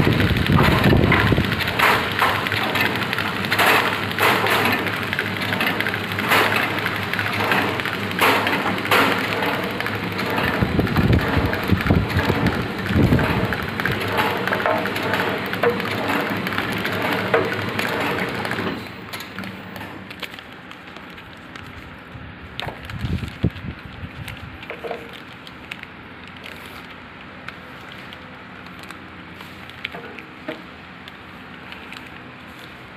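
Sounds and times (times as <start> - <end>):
plastic film crackling: 0.0 - 18.6, 19.4 - 32.9
packing machine hum: 0.0 - 32.9.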